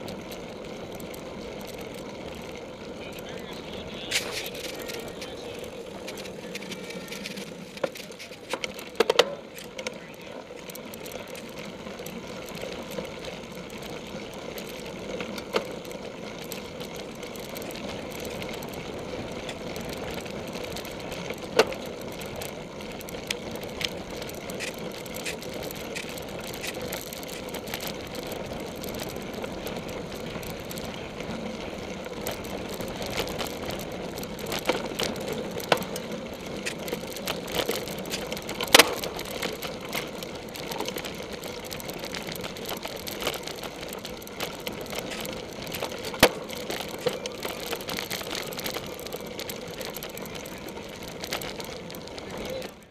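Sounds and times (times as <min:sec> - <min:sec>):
bike rattling over grass and dirt: 0:00.0 - 0:52.9.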